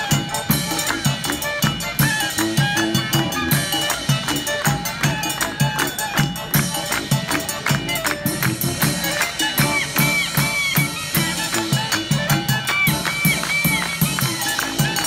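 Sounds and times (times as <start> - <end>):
clarinet melody: 0.0 - 15.0
gong and drums beat: 0.0 - 15.0
tuba bass line: 0.0 - 15.0.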